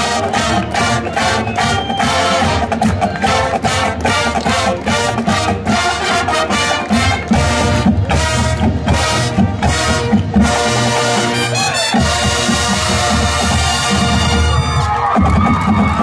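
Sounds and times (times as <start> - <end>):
brass chords: 0.0 - 15.1.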